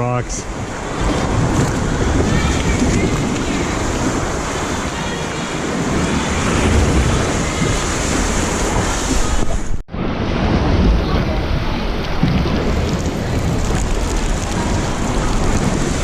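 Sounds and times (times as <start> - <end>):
wind buffeting microphone: 0.0 - 16.0
water sloshing against rocks: 0.2 - 9.8, 10.4 - 16.0.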